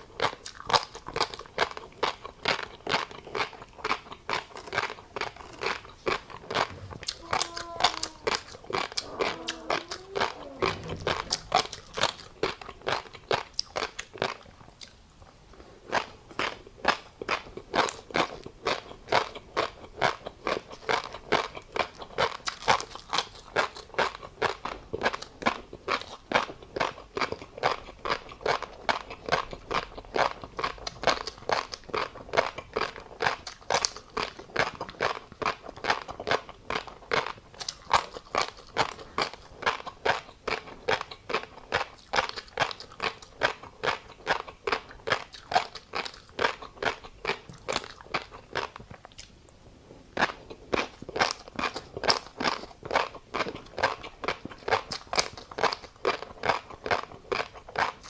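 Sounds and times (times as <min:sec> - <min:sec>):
chewing crunchy fish roe: 0:00.0 - 0:58.0.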